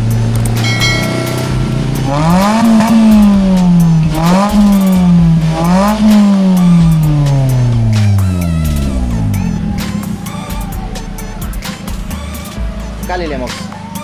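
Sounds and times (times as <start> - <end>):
car engine revving: 0.0 - 13.7
car engine idling: 0.0 - 14.0.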